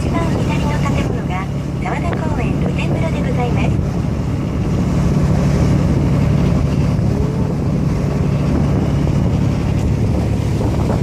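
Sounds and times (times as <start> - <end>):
boat engine droning: 0.0 - 11.0
water noise: 0.0 - 11.0
wind noise: 0.0 - 11.0.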